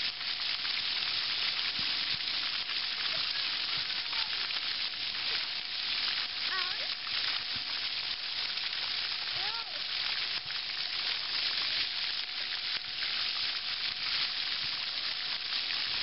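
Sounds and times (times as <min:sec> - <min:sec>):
fountain jets spraying on concrete: 0:00.0 - 0:16.0.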